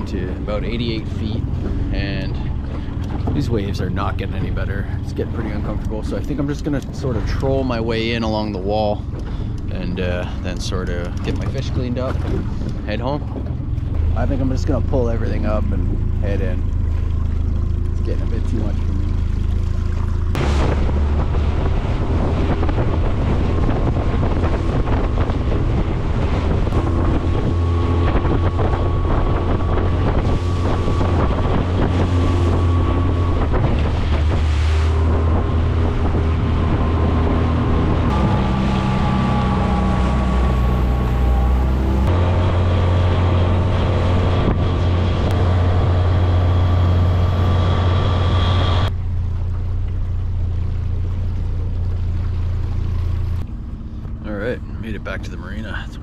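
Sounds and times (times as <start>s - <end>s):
wind buffeting microphone: 0.0s - 49.0s
outboard motor running: 0.0s - 56.0s
water splashing against hull: 0.0s - 56.0s.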